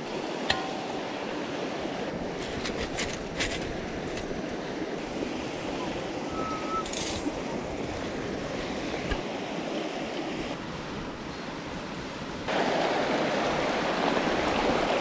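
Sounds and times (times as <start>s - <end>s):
mountain stream water rushing: 0.0s - 15.0s.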